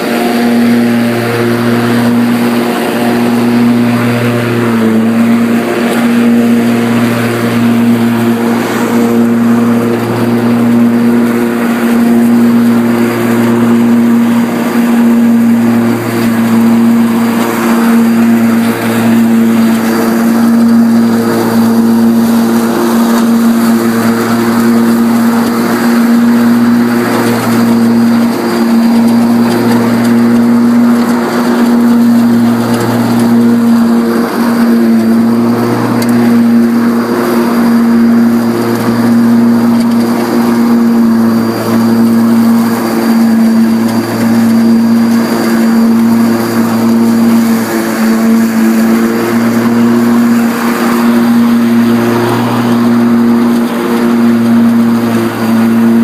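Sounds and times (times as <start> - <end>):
electric motor hum: 0.0 - 56.0
mower deck rushing noise: 0.0 - 56.0.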